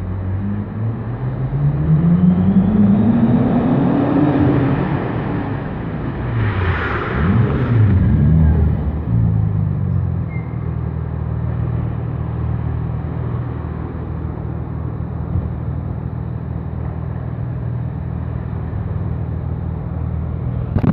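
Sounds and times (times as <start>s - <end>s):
car engine rumbling: 0.0s - 20.9s.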